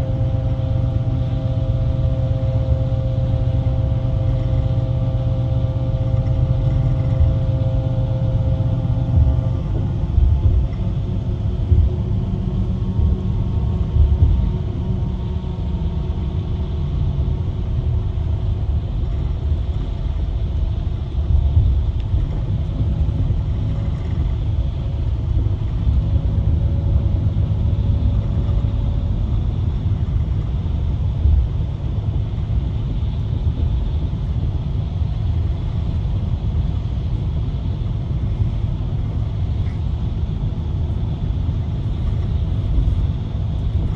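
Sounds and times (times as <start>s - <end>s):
engine and road rumble: 0.0s - 43.9s
faint hum: 0.0s - 43.9s.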